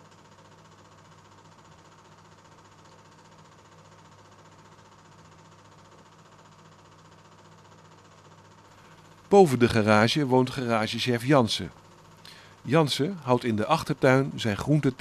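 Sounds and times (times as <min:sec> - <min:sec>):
old film hum and hiss: 0:00.0 - 0:15.0.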